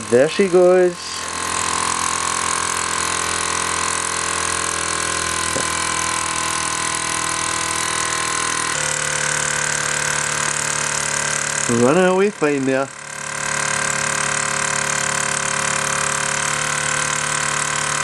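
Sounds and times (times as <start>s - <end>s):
toy steam engine humming: 0.0s - 18.0s.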